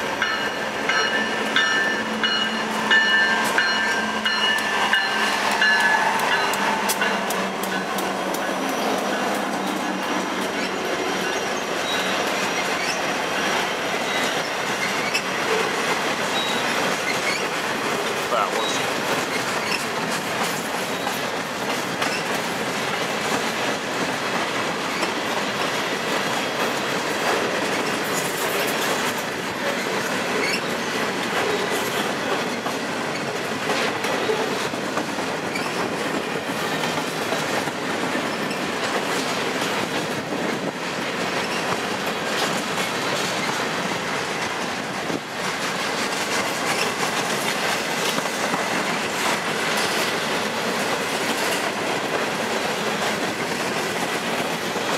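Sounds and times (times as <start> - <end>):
freight train rumble and clatter: 0.0 - 54.9
train wheel clicks: 0.2 - 54.9.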